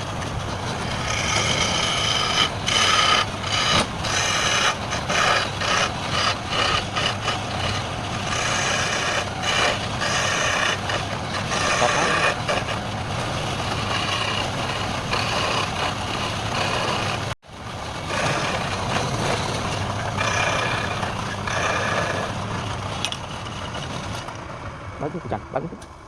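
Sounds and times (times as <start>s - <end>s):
wood lathe cutting wood: 0.0s - 24.2s.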